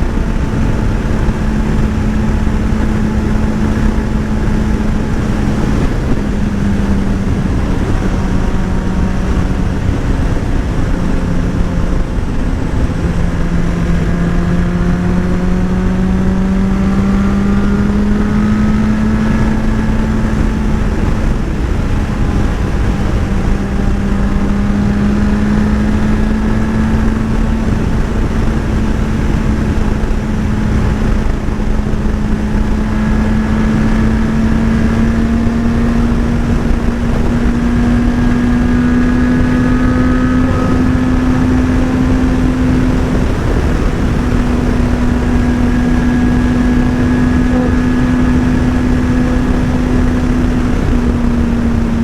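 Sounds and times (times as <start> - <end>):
motorcycle engine cruising: 0.0 - 52.0
wind rush on microphone: 0.0 - 52.0.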